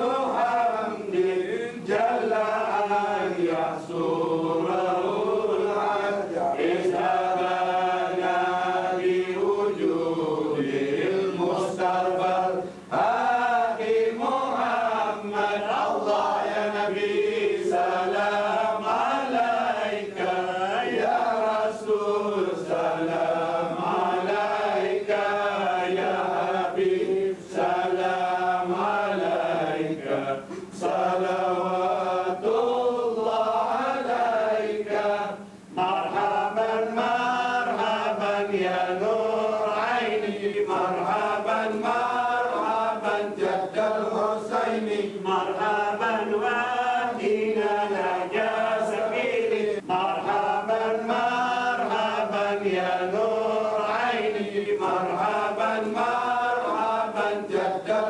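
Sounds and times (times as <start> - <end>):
person chanting religious recitation: 0.0 - 58.0.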